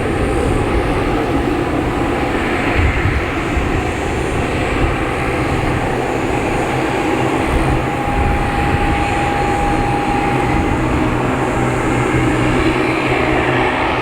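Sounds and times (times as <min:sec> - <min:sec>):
airliner engines running: 0:00.0 - 0:14.0
thin steady whine: 0:00.0 - 0:14.0.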